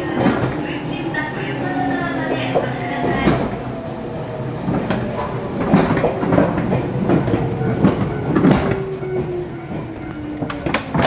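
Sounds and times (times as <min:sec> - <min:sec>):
train rumbling on rails: 0:00.0 - 0:11.0
wheels clacking over rail joints: 0:00.0 - 0:11.0.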